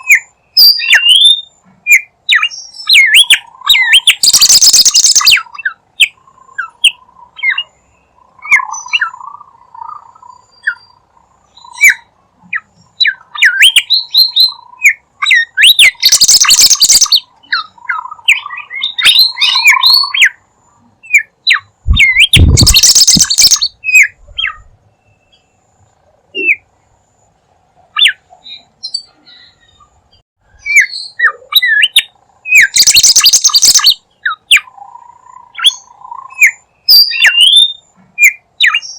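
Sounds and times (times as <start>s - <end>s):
rapid sharp bird chirps: 0.0s - 20.4s, 21.0s - 25.4s, 30.6s - 38.9s.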